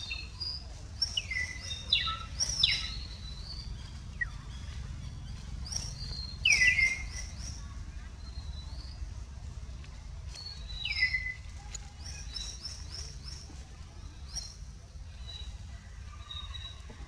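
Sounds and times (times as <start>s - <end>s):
steady low rumble: 0.0s - 16.9s
forest birds chirping: 0.0s - 17.0s.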